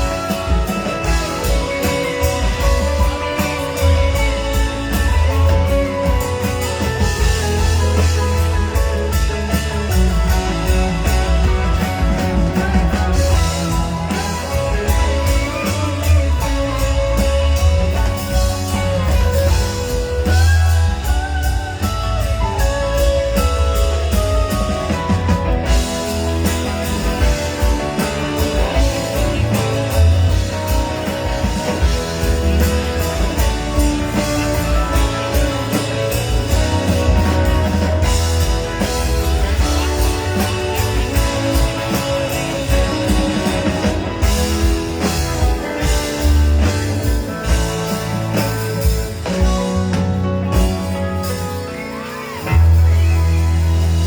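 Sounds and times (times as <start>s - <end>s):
drum hits: 0.0s - 51.4s
live rock band playing: 0.0s - 54.0s.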